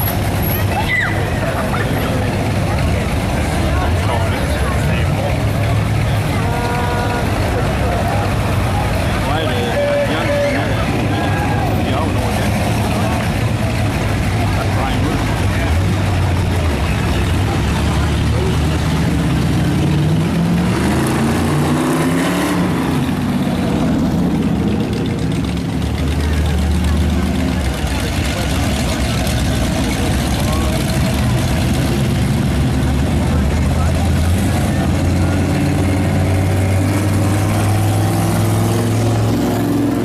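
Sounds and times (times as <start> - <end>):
cars driving slowly past: 0.0 - 40.0.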